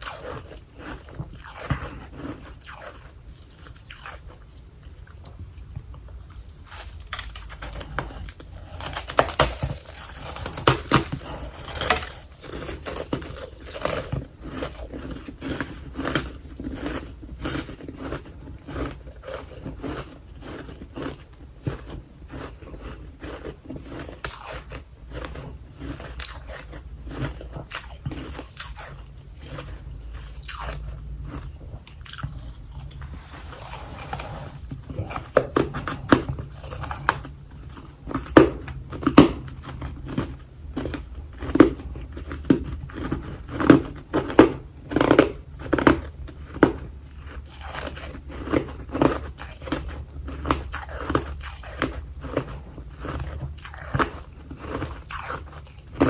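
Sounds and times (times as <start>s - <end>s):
crunching frost chewing: 0.0s - 56.0s.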